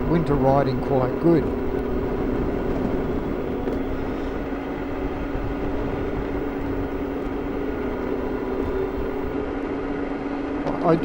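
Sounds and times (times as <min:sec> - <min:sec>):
electric motor whine: 0:00.0 - 0:09.4
wind and road rumble: 0:00.0 - 0:09.5.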